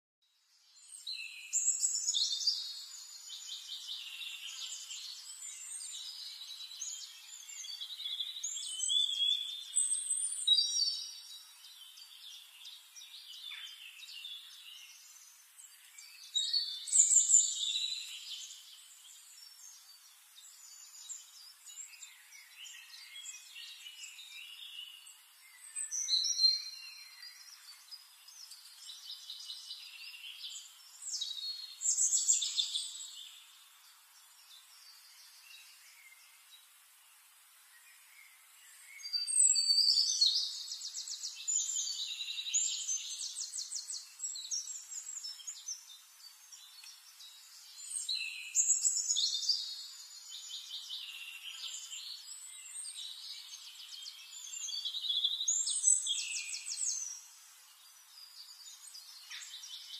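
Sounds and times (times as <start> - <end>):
birds chirping and trilling: 0.5 - 59.9.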